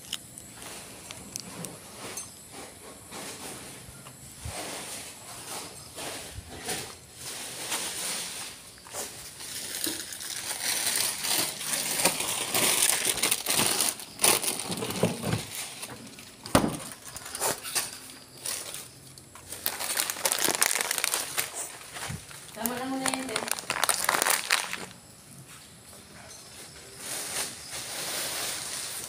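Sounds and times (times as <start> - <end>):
rustling and crinkling: 0.0 - 29.0.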